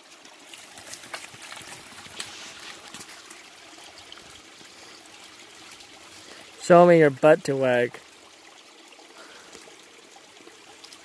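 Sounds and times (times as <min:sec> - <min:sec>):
stream trickling: 0:00.0 - 0:11.0
water splashes and drips: 0:00.0 - 0:11.0.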